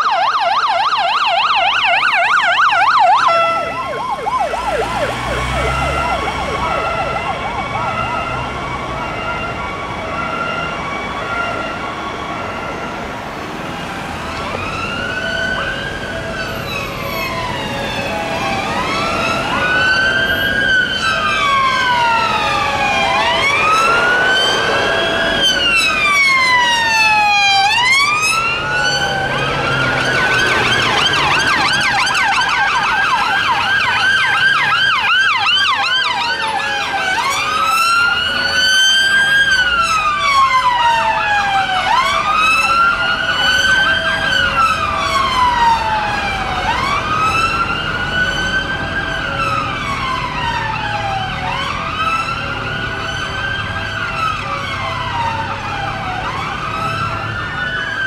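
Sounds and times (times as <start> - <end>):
siren fast yelp: 0.0 - 13.0, 14.0 - 58.0
siren slow wail: 0.0 - 58.0.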